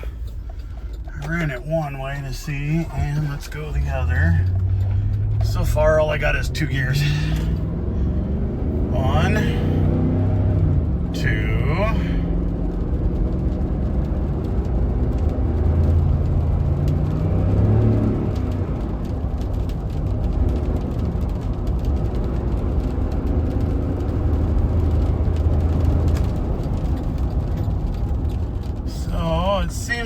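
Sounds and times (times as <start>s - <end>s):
vehicle engine pulling: 0.0s - 30.0s.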